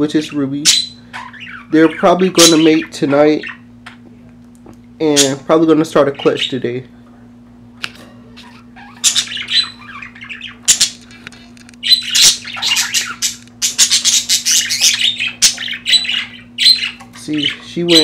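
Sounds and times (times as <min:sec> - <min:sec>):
faint low hum: 0:00.0 - 0:18.0
budgerigars chattering and squawking: 0:00.2 - 0:04.0, 0:05.0 - 0:06.8, 0:08.4 - 0:18.0.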